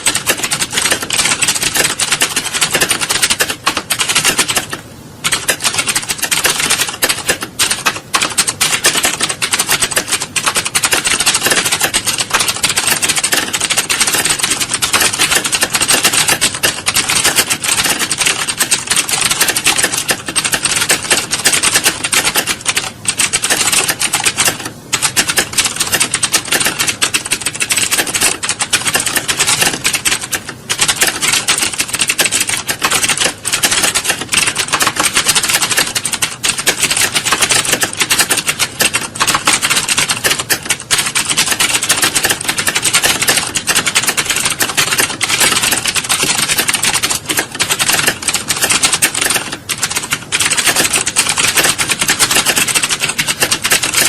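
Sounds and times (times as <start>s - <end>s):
fast typing on keyboards: 0.0s - 54.0s.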